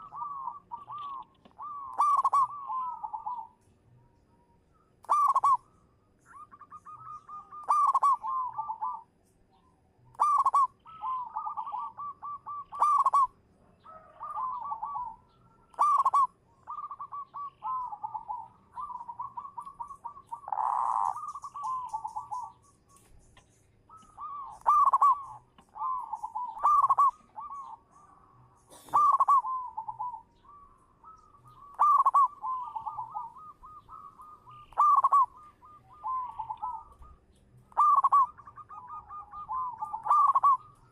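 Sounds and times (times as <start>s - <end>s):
dove cooing: 0.0s - 3.6s, 5.0s - 9.1s, 10.1s - 22.7s, 23.9s - 40.9s.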